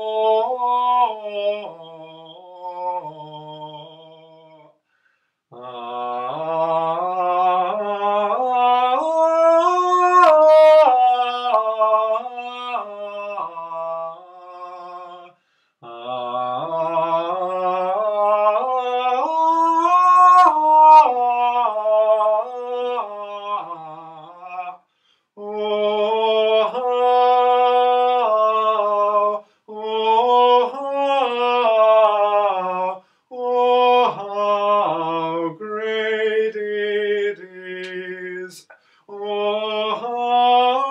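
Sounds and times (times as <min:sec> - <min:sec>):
man singing wordless melody: 0:00.0 - 0:04.8, 0:05.5 - 0:40.9.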